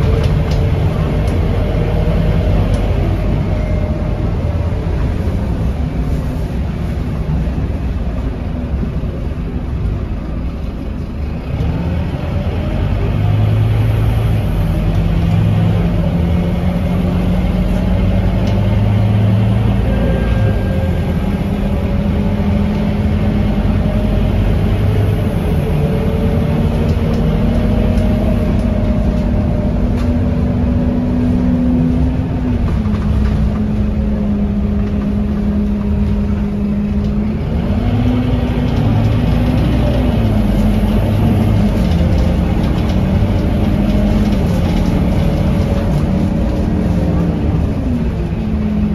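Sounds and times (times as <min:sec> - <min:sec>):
bus engine droning: 0:00.0 - 0:48.9.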